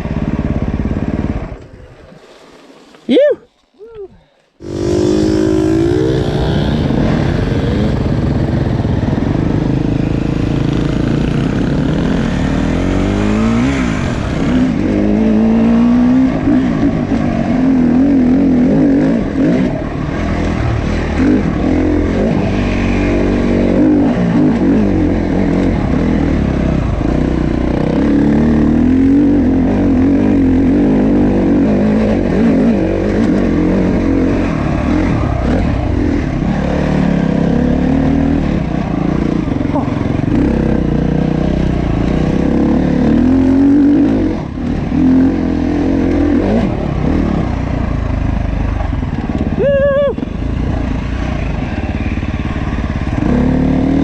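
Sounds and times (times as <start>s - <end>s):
dirt bike engine revving: 4.6s - 54.0s.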